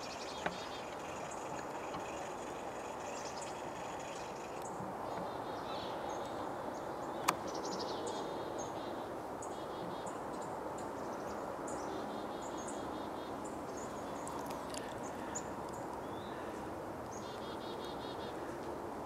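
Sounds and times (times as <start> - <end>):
small birds chirping: 0.0 - 18.7
steady background hiss: 0.0 - 19.0.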